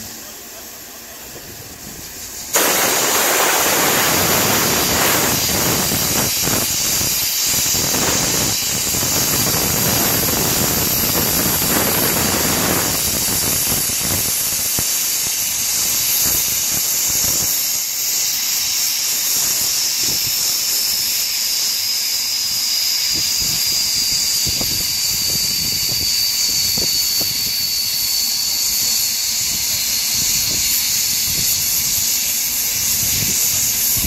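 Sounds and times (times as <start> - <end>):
steam hissing with whistling tone: 0.0 - 34.0.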